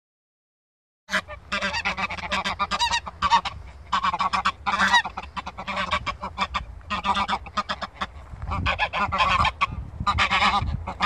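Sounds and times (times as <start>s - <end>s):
geese honking and cackling: 1.1s - 11.0s.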